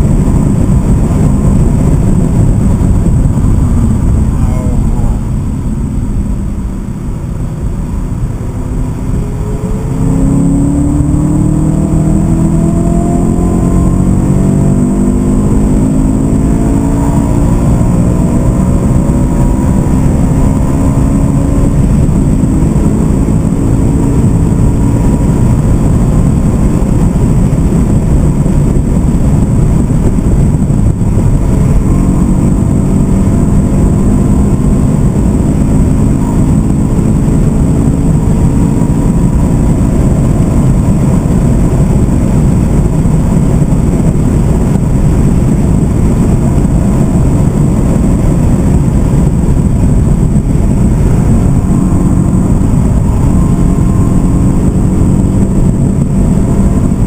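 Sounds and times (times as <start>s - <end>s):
car engine accelerating: 0.0s - 57.0s
road and wind noise: 0.0s - 57.0s.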